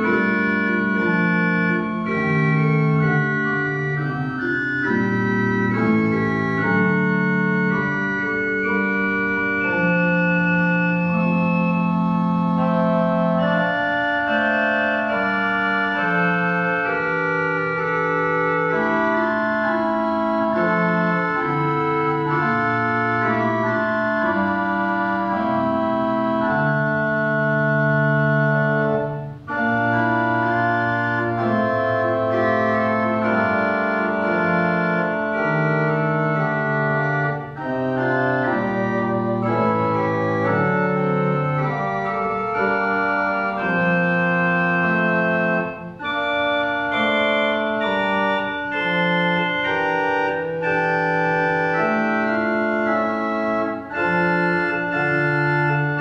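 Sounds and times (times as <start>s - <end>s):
pipe organ playing held chords: 0.0s - 56.0s.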